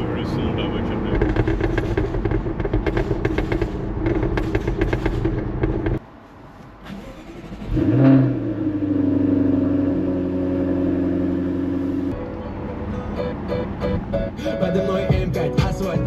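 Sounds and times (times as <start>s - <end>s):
car engine revving and idling: 0.0s - 6.0s, 6.9s - 16.0s.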